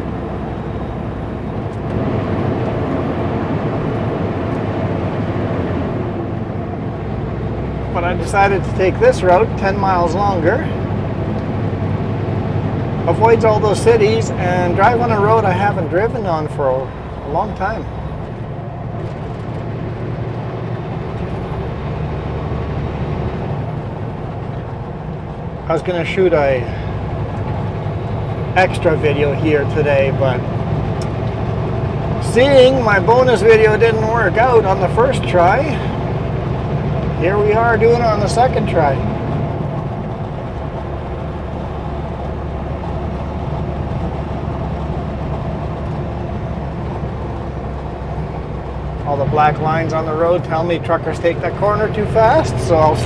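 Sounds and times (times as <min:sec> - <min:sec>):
road noise: 0:00.0 - 0:53.0
truck diesel engine running: 0:00.0 - 0:53.0.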